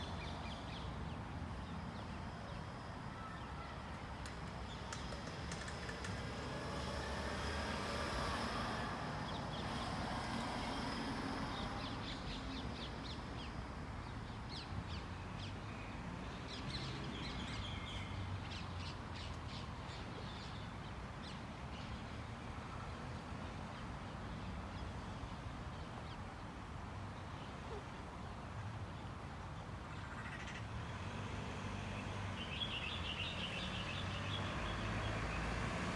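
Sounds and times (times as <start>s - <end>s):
steady background noise: 0.0s - 35.9s.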